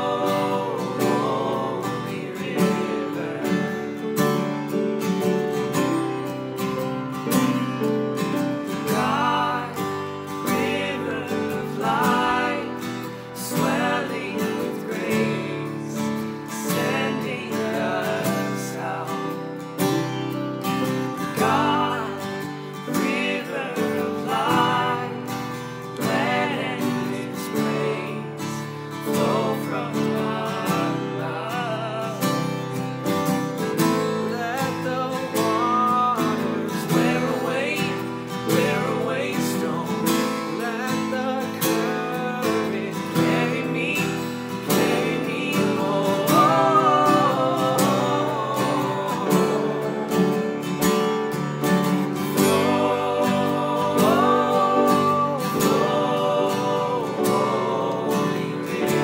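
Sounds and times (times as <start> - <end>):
piano: 0.0 - 59.0
strummed acoustic guitar: 0.0 - 59.0
voices singing together: 0.0 - 59.0.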